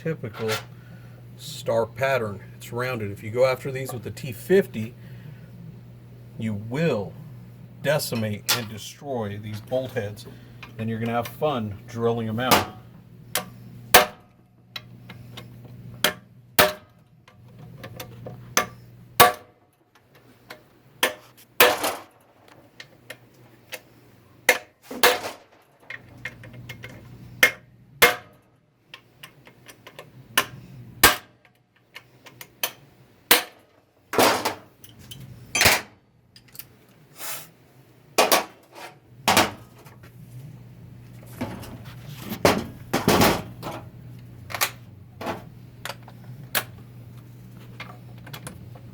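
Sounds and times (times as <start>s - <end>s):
low steady hum: 0.0s - 48.9s.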